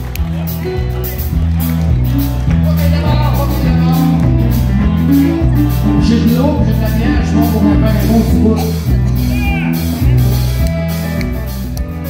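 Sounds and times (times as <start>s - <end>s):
electric bass line: 0.0s - 12.0s
live country band playing: 0.0s - 12.0s.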